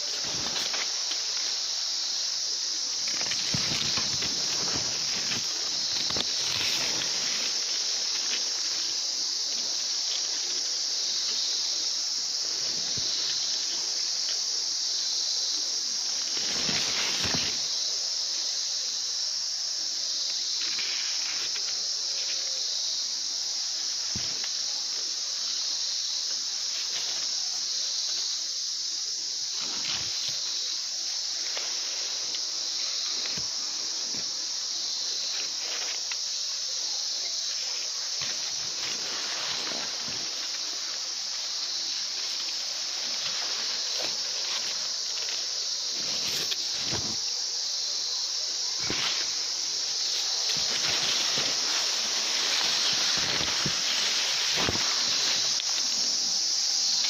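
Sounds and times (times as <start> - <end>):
insects chorus: 0.0 - 57.0
leaves rustling: 0.0 - 57.0.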